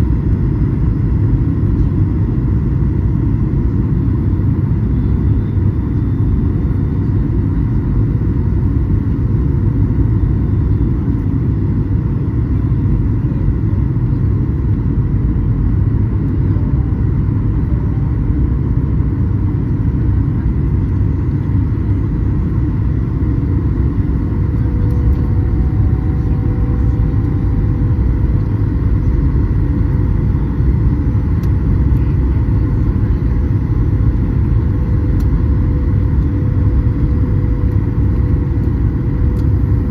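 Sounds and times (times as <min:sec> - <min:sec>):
airliner engines rumbling in cabin: 0:00.0 - 0:39.9
faint steady whine: 0:00.0 - 0:39.9.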